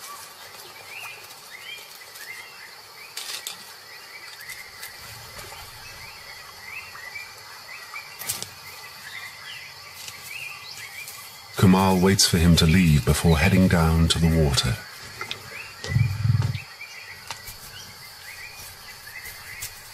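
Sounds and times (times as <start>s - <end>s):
crackling rustles: 0.0s - 6.4s, 8.2s - 8.9s, 9.8s - 19.9s
birds chirping: 0.0s - 19.9s
high insect drone: 0.2s - 19.9s.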